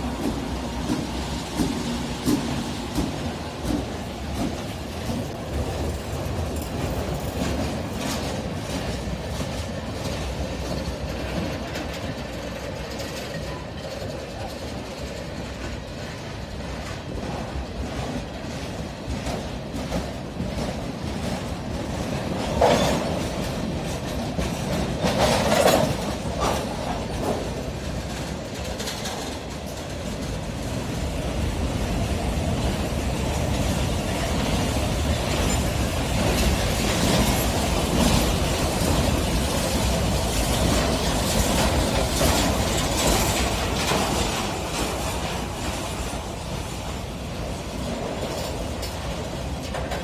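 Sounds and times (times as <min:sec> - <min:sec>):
freight train wheels rumbling and clicking: 0:00.0 - 0:50.0
loud train clunks: 0:00.0 - 0:50.0.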